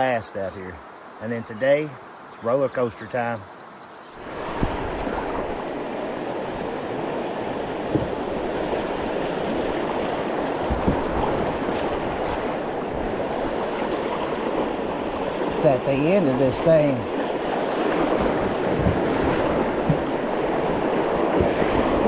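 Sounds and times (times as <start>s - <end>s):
river rapids rushing: 4.2s - 22.0s.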